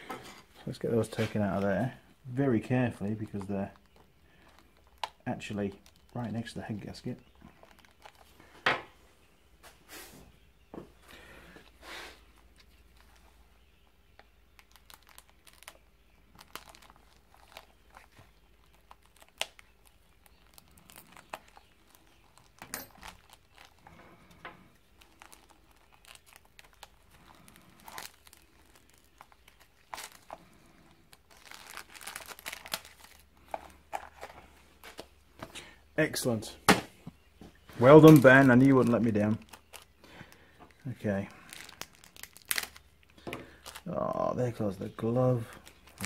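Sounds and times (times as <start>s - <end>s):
plastic packaging crinkling: 2.6s - 8.5s, 12.5s - 35.2s, 37.5s - 46.0s.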